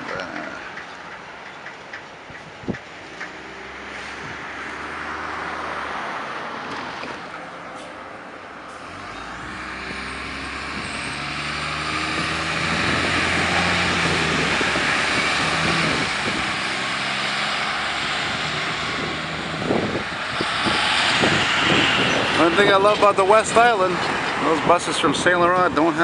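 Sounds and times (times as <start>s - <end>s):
bus engine accelerating: 0.0s - 26.0s
bus tyre noise: 0.0s - 26.0s.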